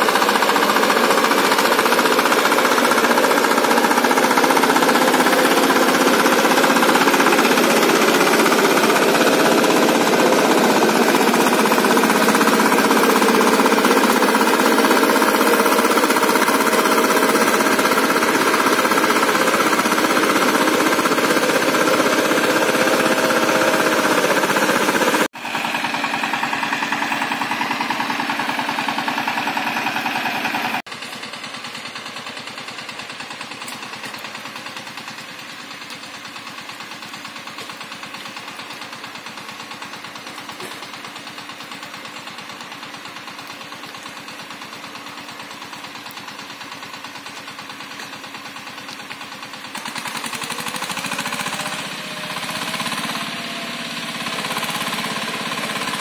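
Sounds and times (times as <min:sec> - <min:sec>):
diesel tiller engine chugging: 0:00.0 - 0:56.0.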